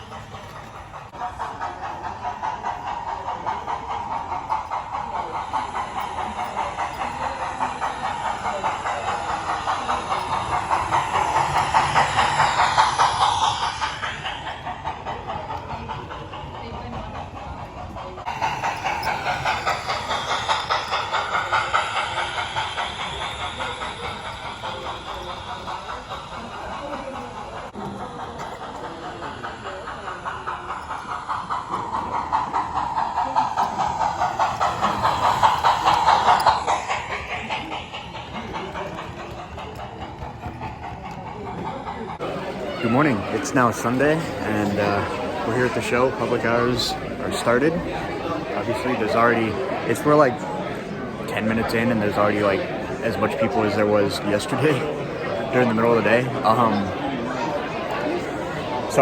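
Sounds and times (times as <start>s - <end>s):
train wheels clattering: 0.0s - 59.0s.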